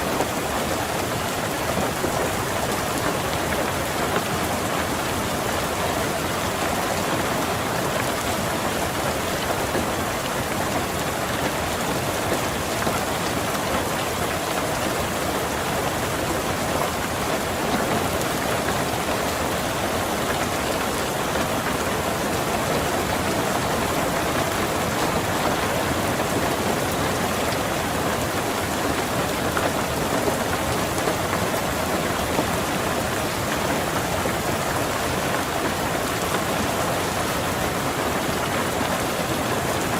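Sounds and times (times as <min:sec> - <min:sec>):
rain on a car: 0:00.0 - 0:39.9.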